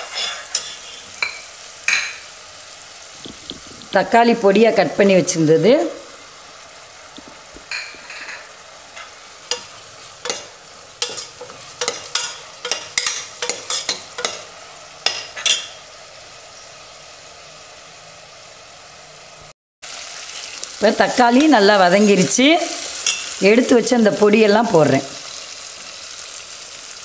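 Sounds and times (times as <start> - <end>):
masala sizzling in oil: 0.0 - 27.0.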